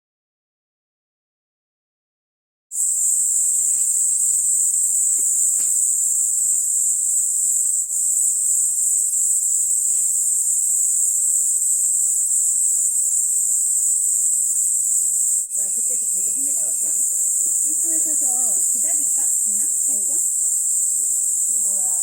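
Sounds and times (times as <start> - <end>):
insects chirping chorus: 2.7 - 22.0.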